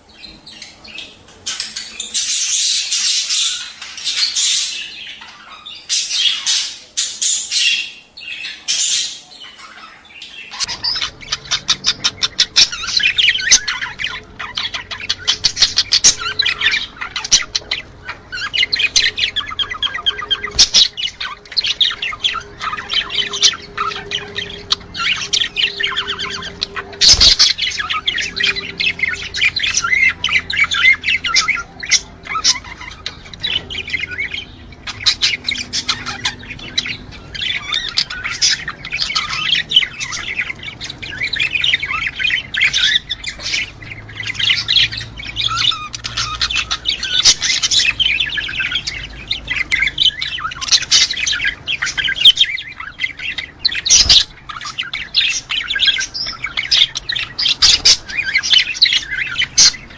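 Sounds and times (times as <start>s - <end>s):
budgerigars chattering and warbling: 0.0s - 59.9s.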